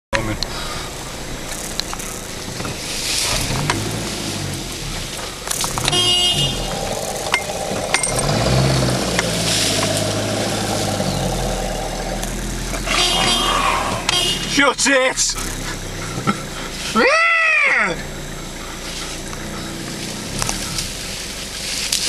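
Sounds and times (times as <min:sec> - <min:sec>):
car engine running: 0:00.1 - 0:22.0.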